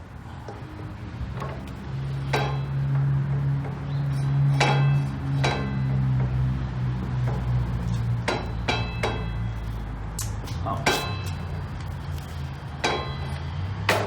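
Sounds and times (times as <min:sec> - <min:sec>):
steady low hum: 0:00.0 - 0:14.0
sharp metallic knocks and clinks: 0:01.4 - 0:12.0, 0:12.8 - 0:14.0.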